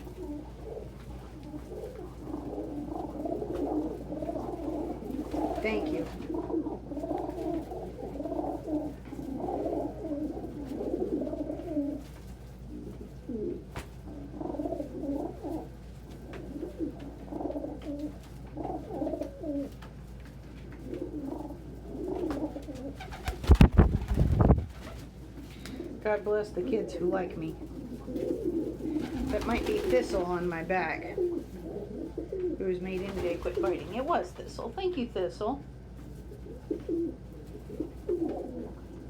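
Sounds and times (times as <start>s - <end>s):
pigeons cooing: 0.0s - 34.4s, 35.8s - 39.0s.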